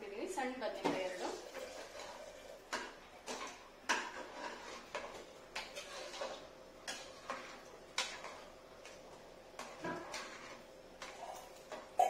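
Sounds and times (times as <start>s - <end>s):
metal spoon stirring thick curry: 1.1s - 8.5s, 9.6s - 11.9s.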